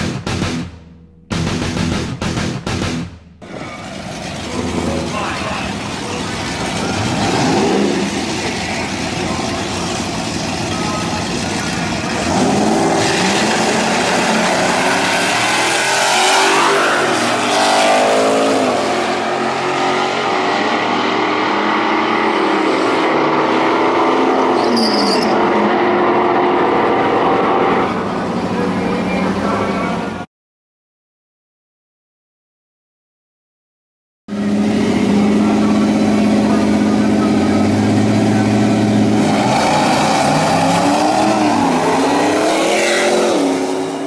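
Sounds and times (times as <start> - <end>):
truck engines revving: 0.0 - 30.3, 34.3 - 44.0.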